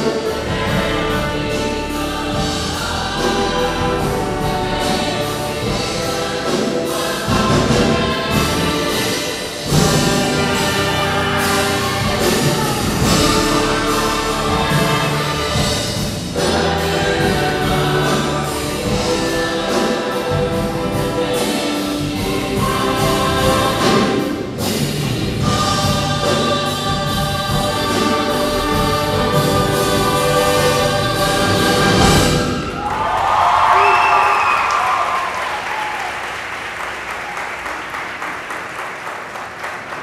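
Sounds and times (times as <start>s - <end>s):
instrumental accompaniment: 0.0s - 32.8s
choir singing: 0.0s - 33.1s.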